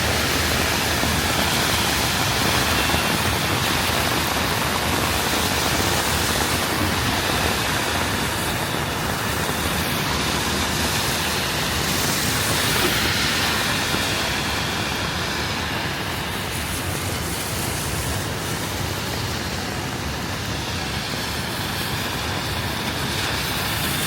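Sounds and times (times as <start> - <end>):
city street traffic: 0.0 - 24.0
rain hissing: 0.0 - 24.0.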